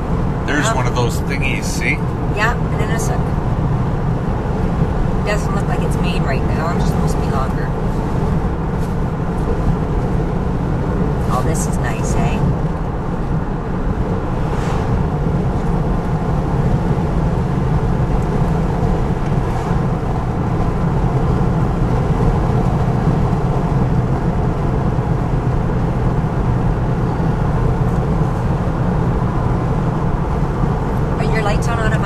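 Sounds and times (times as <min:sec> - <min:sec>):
car cabin road and engine noise: 0:00.0 - 0:32.0
passing truck rush: 0:00.0 - 0:32.0.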